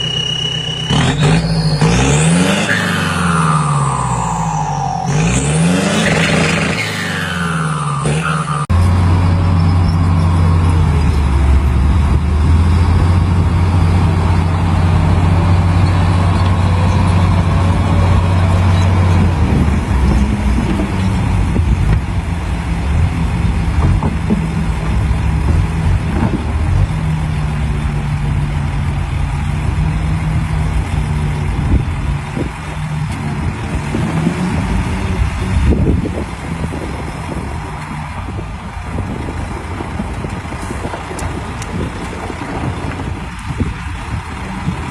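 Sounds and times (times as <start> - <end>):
heavy machinery diesel engine: 0.0 - 44.9.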